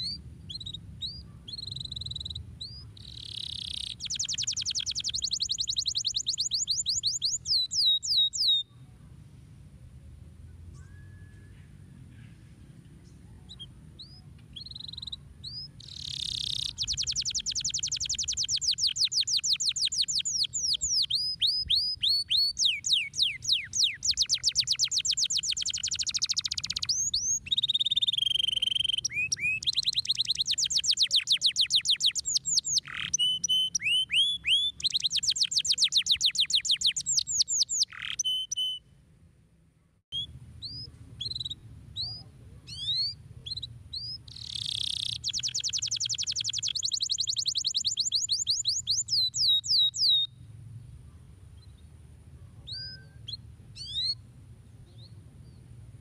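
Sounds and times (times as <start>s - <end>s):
canary singing trills: 0.0s - 8.9s, 13.0s - 38.9s, 40.1s - 50.4s, 52.6s - 55.7s.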